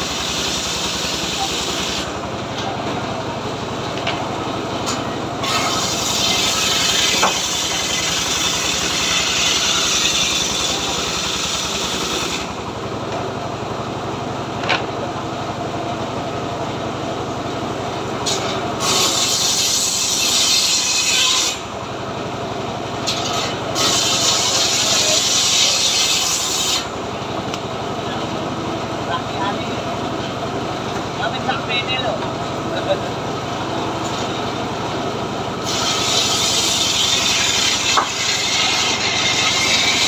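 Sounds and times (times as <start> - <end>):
circular saw cutting log: 0.0 - 14.9, 17.8 - 40.0.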